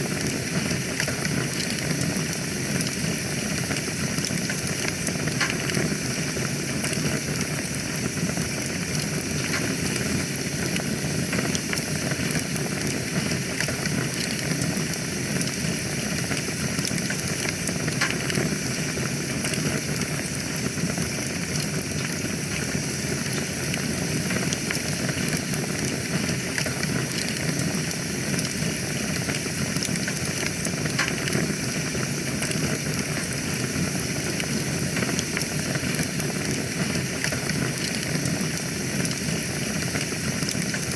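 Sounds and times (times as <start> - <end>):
fire crackles and pops: 0.0 - 40.9
fire rumble and hiss: 0.0 - 40.9.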